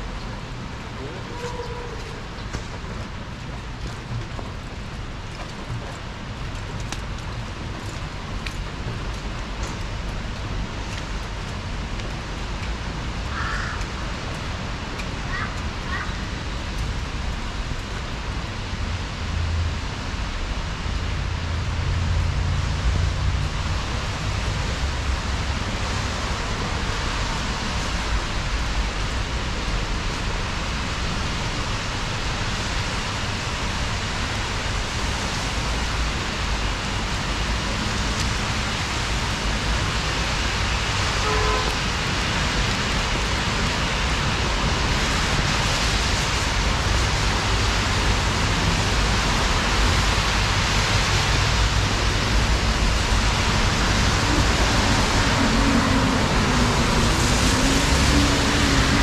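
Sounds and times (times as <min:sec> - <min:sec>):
heavy rain on street: 0:00.0 - 0:59.0
passing traffic hum: 0:00.0 - 0:59.0.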